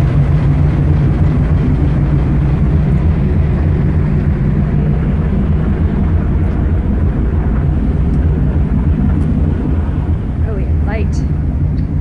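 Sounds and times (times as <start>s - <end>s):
rush of ship's wake: 0.0s - 12.0s
ship engine rumble: 0.0s - 12.0s
wind buffeting microphone: 0.0s - 12.0s.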